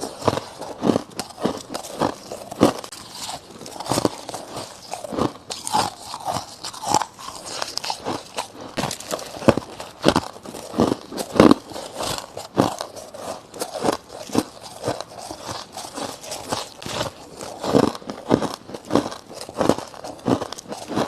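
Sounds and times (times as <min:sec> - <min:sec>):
ice being chewed crunching: 0:00.0 - 0:21.0.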